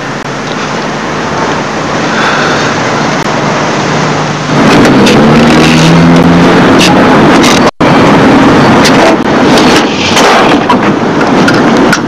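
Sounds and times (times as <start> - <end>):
low engine hum: 0.0 - 12.0
street traffic rush: 0.0 - 12.0.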